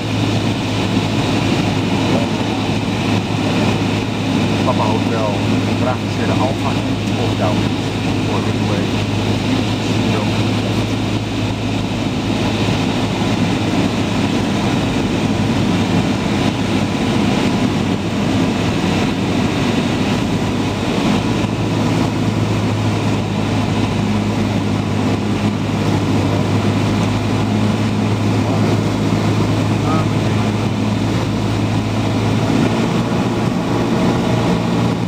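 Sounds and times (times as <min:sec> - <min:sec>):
plane engine and propeller droning: 0:00.0 - 0:35.0.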